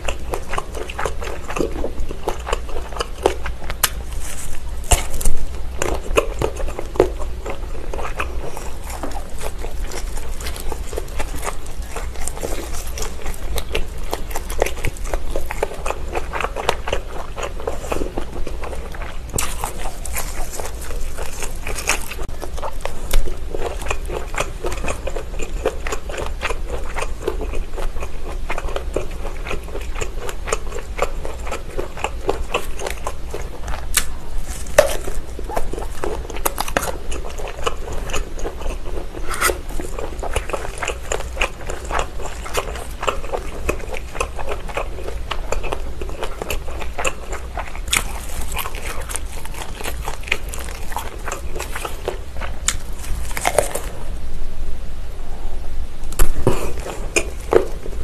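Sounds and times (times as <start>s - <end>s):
chewing sausages: 0.0s - 54.2s, 56.1s - 58.0s.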